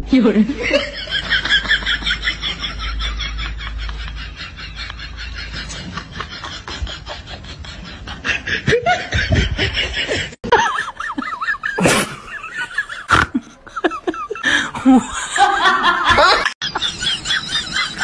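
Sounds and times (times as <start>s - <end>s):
people laughing hard: 0.5s - 18.0s.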